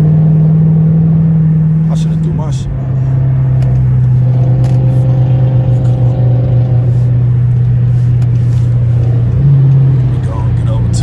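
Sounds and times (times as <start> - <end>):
car engine and exhaust droning: 0.0 - 11.0.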